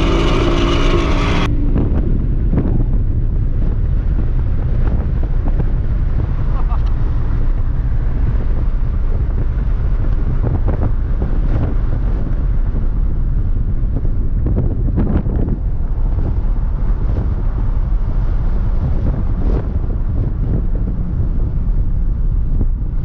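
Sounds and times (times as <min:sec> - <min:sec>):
vehicle running: 0:00.0 - 0:23.0
wind buffeting microphone: 0:00.0 - 0:23.0.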